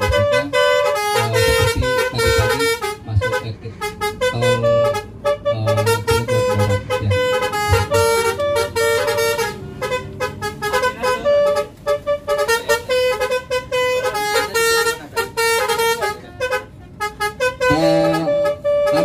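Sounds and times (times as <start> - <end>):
bus musical air horn tune: 0.0 - 19.0.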